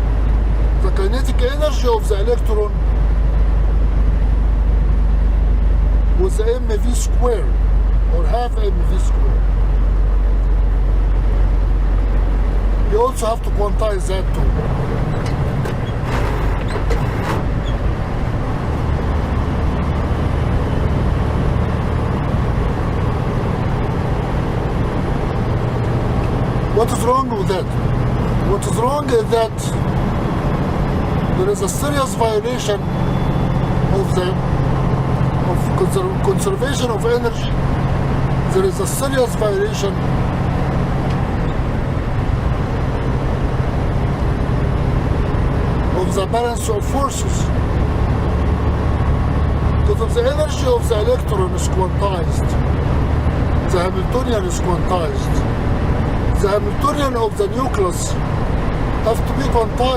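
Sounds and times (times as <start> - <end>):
truck engine and road drone: 0.0 - 59.9.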